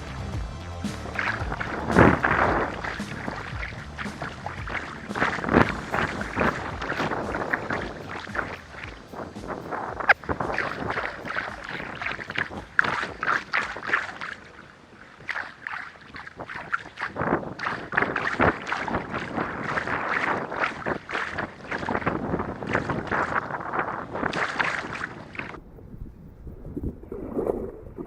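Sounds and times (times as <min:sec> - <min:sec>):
paddle strokes splashing: 0:00.9 - 0:25.6.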